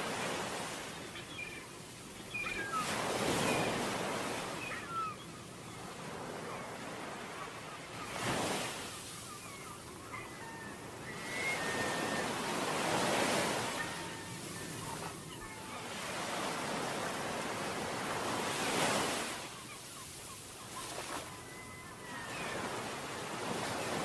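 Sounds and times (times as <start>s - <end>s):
ocean waves washing onto beach: 0.0s - 24.0s.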